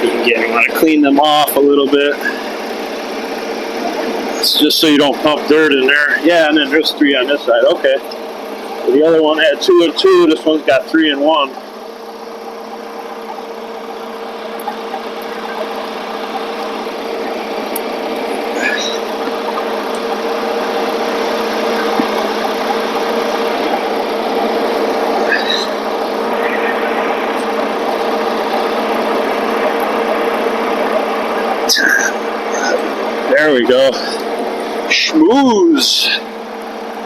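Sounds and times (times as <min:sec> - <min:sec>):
forklift engine humming: 0:00.0 - 0:37.0.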